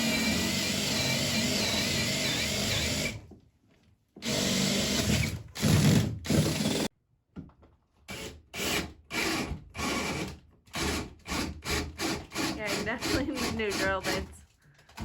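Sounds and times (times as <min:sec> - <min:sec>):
power drill boring into wood: 0:00.0 - 0:03.2, 0:04.2 - 0:06.9, 0:08.1 - 0:14.3.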